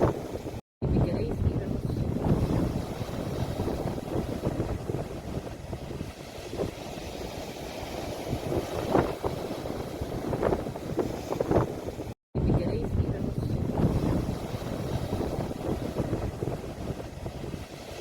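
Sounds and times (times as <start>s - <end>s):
sea waves washing on shore: 0.0s - 18.0s
wave splashes: 0.0s - 18.0s
wind rumbling on microphone: 0.0s - 18.0s.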